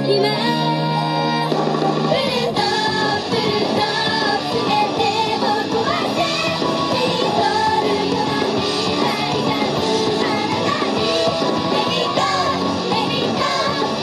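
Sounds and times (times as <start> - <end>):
pop song with girl singing: 0.0 - 14.0
rock-pop backing music: 0.0 - 14.0.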